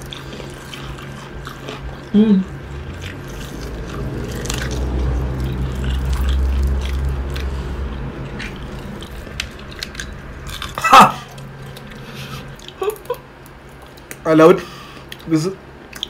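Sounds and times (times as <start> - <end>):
low rumble: 0.0 - 14.0
crunching fried chicken: 0.0 - 16.0.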